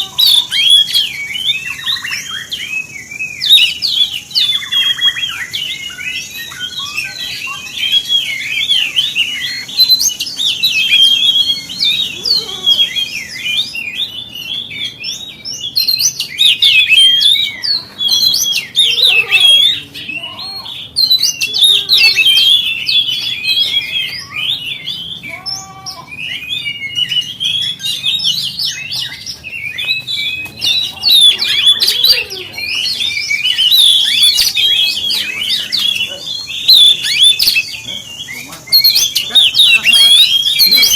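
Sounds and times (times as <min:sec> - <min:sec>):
bird singing whistles and chatter: 0:00.0 - 0:40.9.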